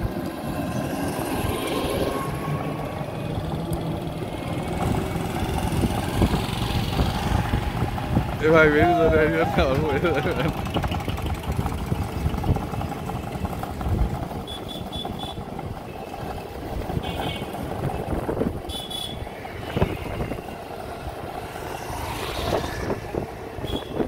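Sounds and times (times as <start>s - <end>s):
vehicle rumbling on asphalt road: 0.0s - 24.0s.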